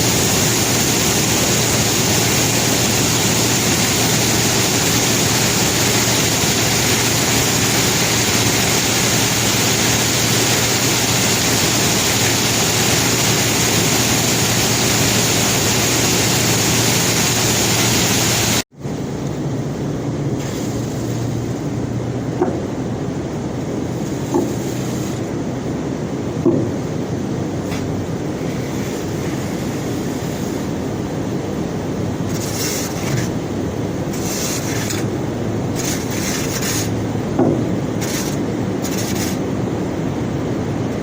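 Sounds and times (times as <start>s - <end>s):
conveyor belt carrying rock: 0.0s - 18.6s, 26.4s - 40.9s.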